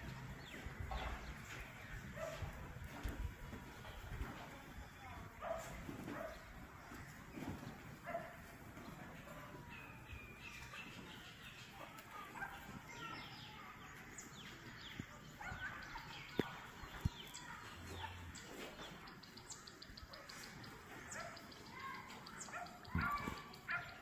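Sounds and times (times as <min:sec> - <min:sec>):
birds chirping and twittering: 0:00.0 - 0:24.0.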